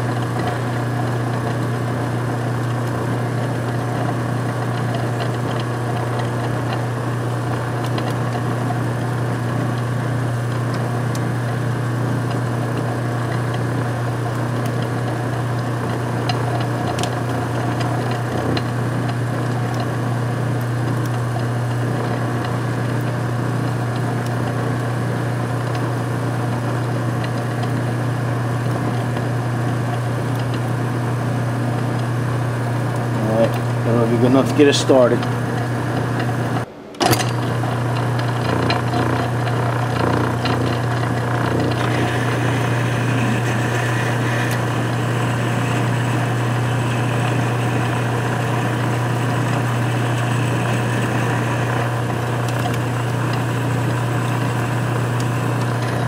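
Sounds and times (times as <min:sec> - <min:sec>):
lathe motor hum: 0:00.0 - 0:56.0.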